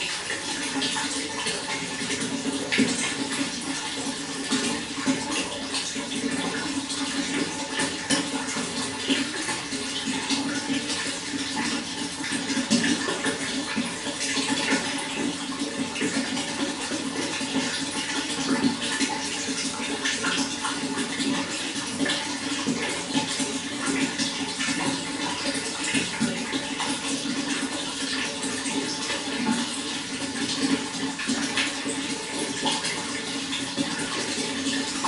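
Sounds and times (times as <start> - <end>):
running water gurgling: 0.0 - 35.0.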